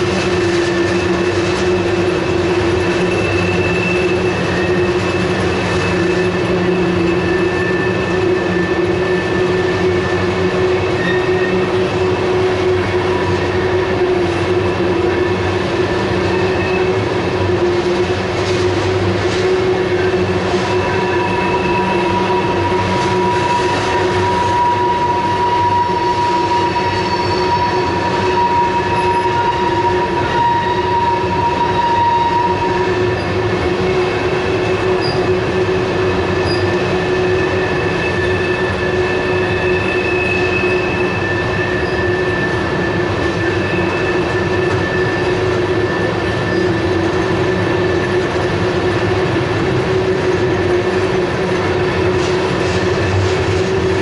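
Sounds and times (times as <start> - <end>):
train wheels rumbling on rails: 0.0 - 54.0
wheels squealing: 0.0 - 54.0.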